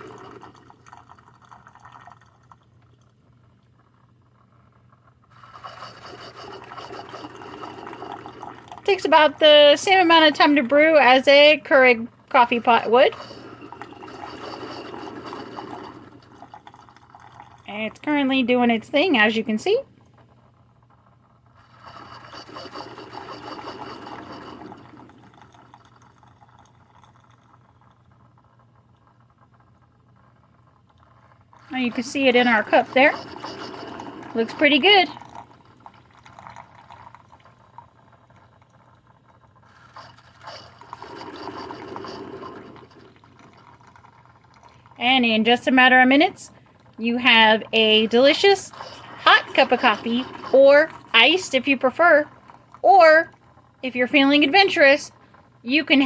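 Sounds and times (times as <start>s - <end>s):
coffee dribbling into cup: 0.0s - 56.0s
coffee maker hum: 0.0s - 56.0s.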